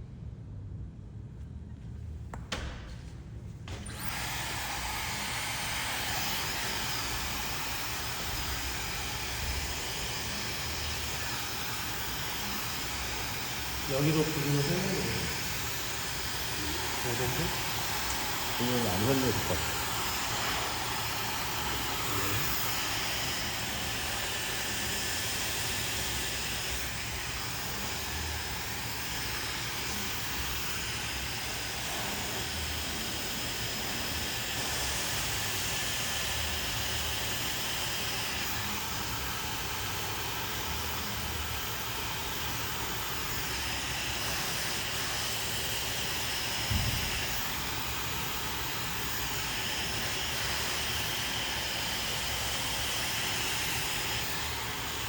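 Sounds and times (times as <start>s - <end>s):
hair dryer blowing: 2.3s - 55.0s.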